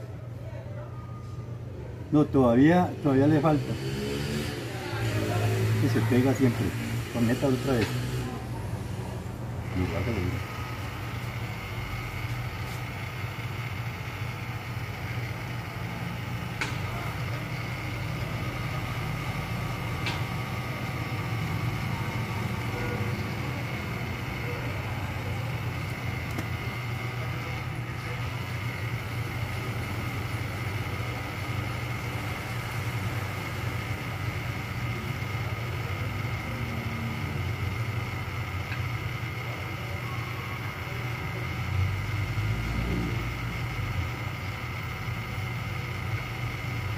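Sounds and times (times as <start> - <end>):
small fan motor humming: 2.0 - 46.9.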